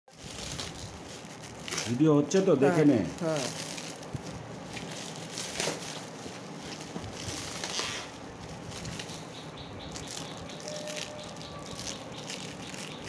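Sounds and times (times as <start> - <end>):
plastic shrink wrap crinkling: 0.1 - 13.0.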